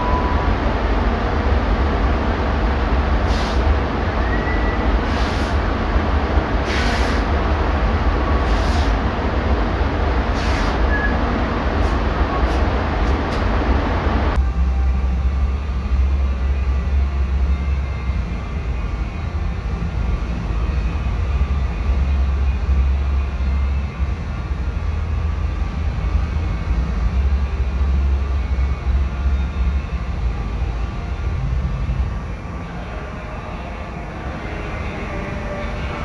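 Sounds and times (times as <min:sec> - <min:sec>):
ventilation fans rumbling: 0:04.9 - 0:36.0.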